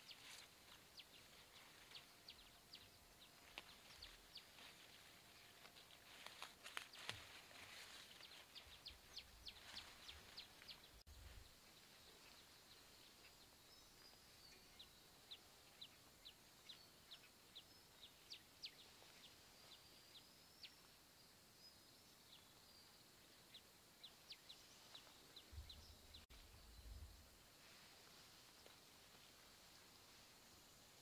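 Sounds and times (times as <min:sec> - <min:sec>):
small birds chirping: 0:00.0 - 0:31.0
steady background hiss: 0:00.0 - 0:31.0.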